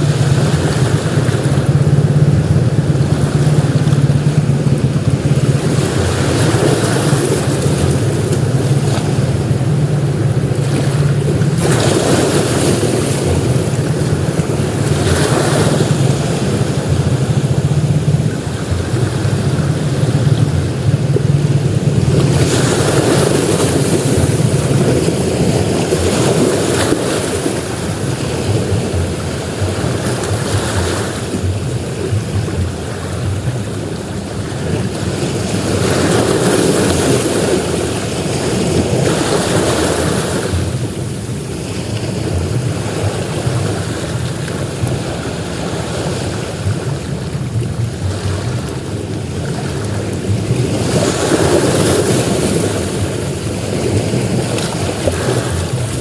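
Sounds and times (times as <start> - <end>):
sea waves breaking on beach: 0.0 - 56.0
wind rumble on microphone: 0.0 - 56.0.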